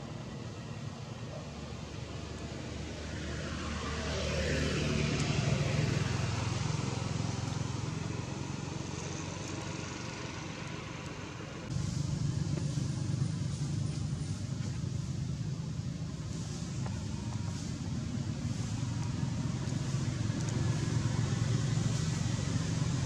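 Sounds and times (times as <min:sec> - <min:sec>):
vehicle engine passing by: 0:00.1 - 0:23.0.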